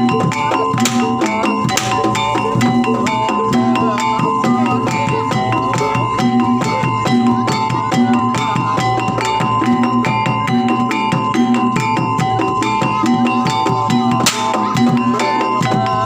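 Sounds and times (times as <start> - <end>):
drums: 0.0 - 16.0
percussion ensemble playing: 0.0 - 16.0
struck metal instruments: 0.0 - 16.0.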